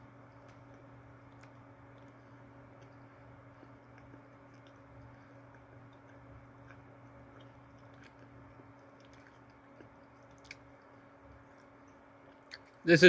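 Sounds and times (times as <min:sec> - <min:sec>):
chewing cookie: 0:00.0 - 0:12.8
low steady hum: 0:00.0 - 0:13.0.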